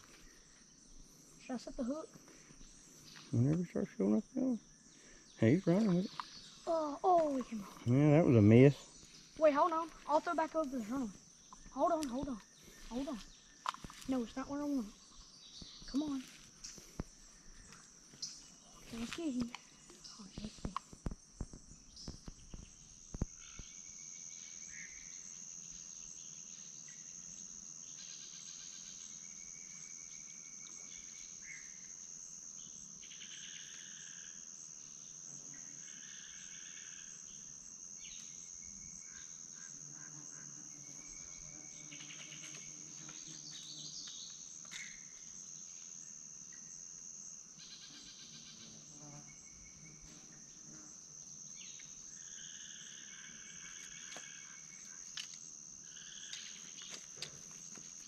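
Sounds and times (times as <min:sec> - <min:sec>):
insect chirping calls: 0:00.0 - 0:58.0
insect trill: 0:00.0 - 0:58.0.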